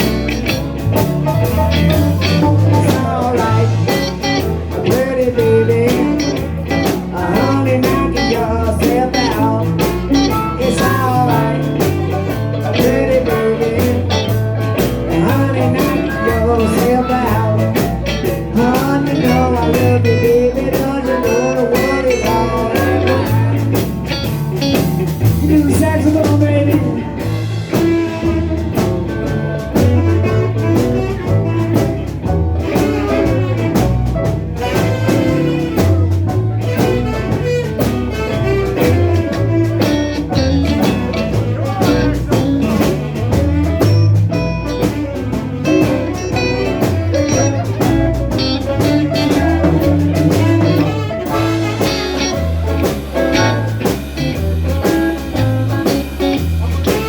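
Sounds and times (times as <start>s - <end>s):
blues band playing: 0.0s - 57.0s
drum kit beat: 0.0s - 57.0s
guitar: 0.0s - 57.0s.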